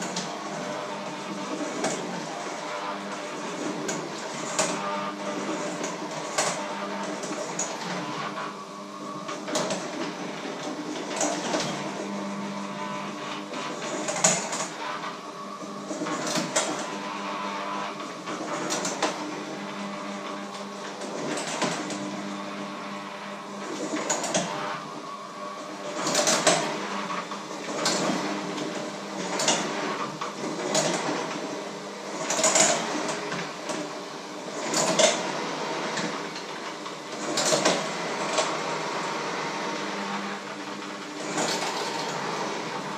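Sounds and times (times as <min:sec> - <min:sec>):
electric kitchen mixer running: 0:00.0 - 0:42.9.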